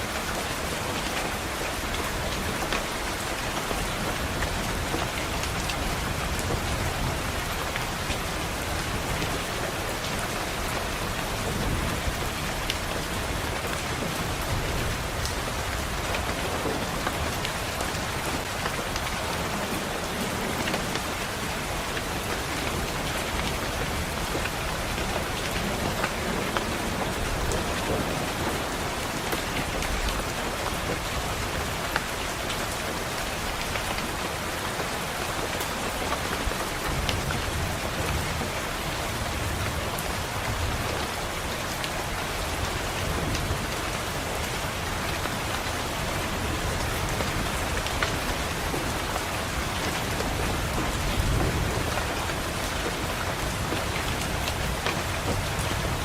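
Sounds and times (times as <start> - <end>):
rain pattering on window glass: 0.0 - 56.0.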